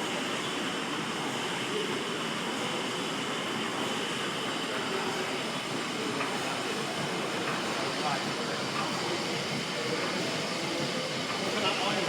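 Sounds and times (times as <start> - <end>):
steam engine running: 0.6 - 12.0.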